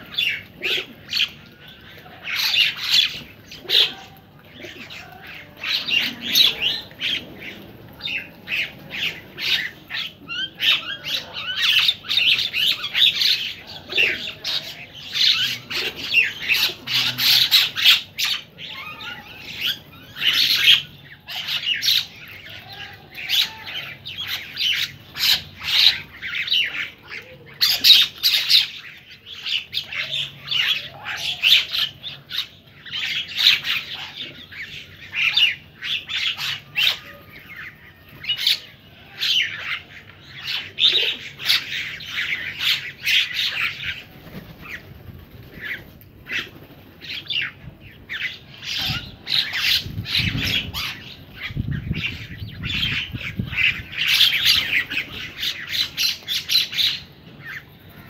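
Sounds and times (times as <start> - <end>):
flock of birds chattering: 0.0 - 58.0.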